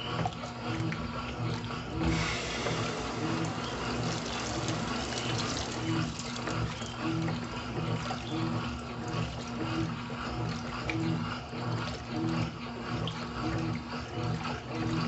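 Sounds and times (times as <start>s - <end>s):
washing machine hum: 0.0s - 15.0s
washing machine water swishing: 0.0s - 15.0s.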